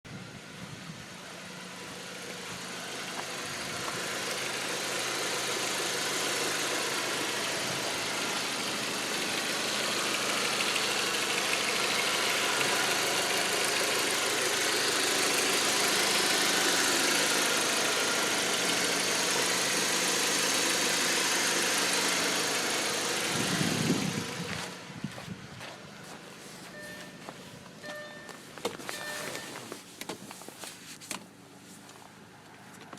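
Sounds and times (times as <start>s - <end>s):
car engine running: 0.1s - 32.9s.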